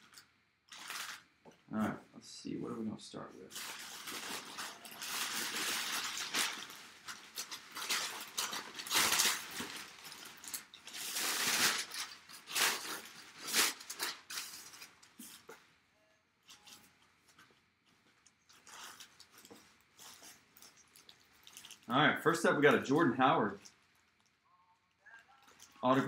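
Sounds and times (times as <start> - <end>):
packing paper rustling: 0.0 - 1.3, 3.5 - 15.6, 16.4 - 26.0.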